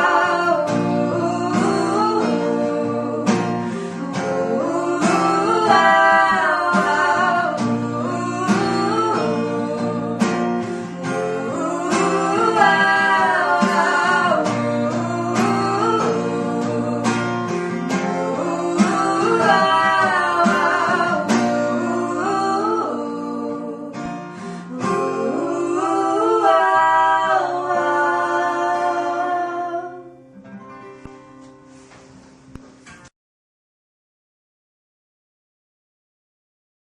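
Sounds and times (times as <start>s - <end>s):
person singing: 0.0s - 30.1s
strummed acoustic guitar: 0.0s - 33.1s.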